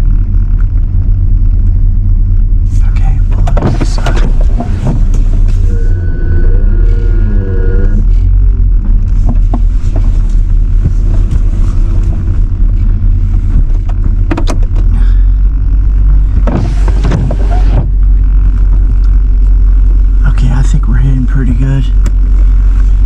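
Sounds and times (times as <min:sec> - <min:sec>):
rush of noise: 0:00.0 - 0:23.0
truck rumbling: 0:00.0 - 0:23.0.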